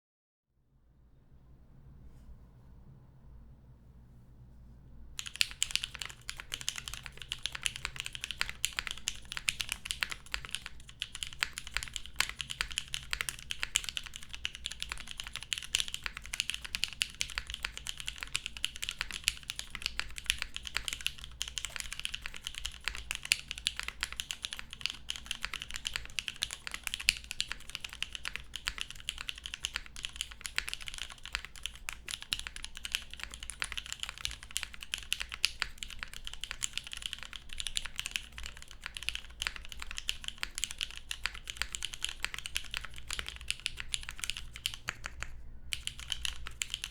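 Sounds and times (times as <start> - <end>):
mechanical keyboard typing: 5.2 - 46.9.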